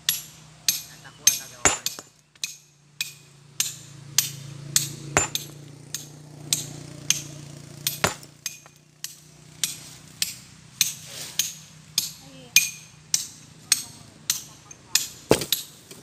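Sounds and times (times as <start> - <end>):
hammer striking rock: 0.1 - 16.0.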